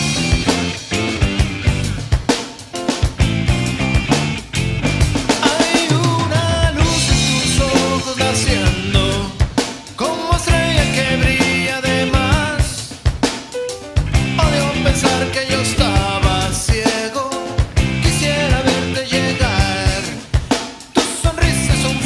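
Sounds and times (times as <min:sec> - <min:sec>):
drum kit beat: 0:00.0 - 0:22.0
rock band playing: 0:00.0 - 0:22.0.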